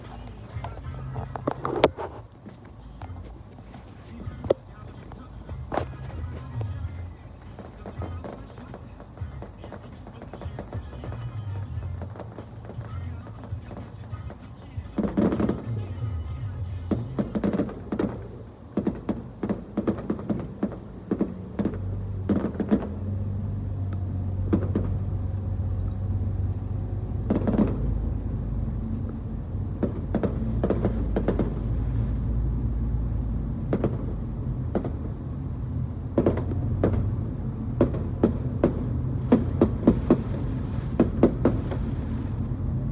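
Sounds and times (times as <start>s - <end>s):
fireworks bangs: 0.0s - 42.9s
steady low hum: 0.0s - 42.9s.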